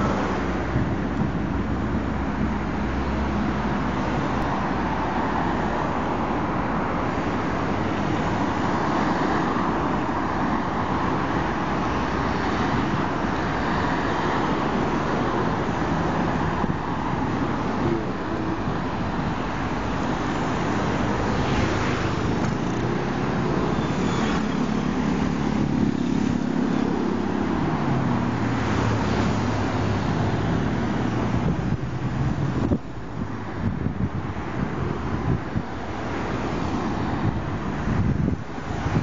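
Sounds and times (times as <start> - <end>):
cars driving past: 0.0 - 39.0.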